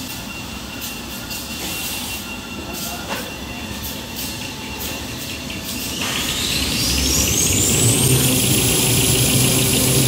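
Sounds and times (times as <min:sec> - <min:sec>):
high machine whine: 0:00.0 - 0:10.0.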